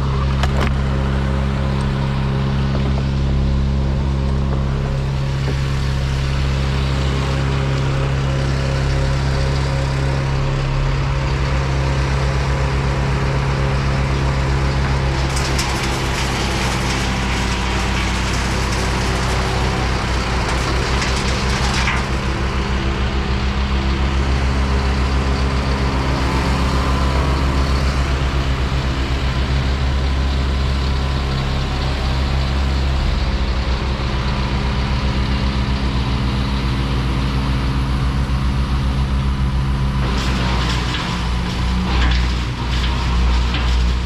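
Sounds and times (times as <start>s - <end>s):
heavy diesel engine throbbing: 0.0s - 44.0s.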